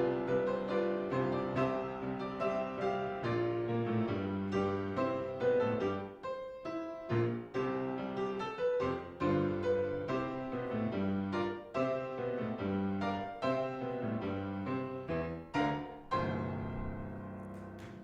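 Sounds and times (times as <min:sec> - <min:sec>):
slow piano piece: 0:00.0 - 0:18.0.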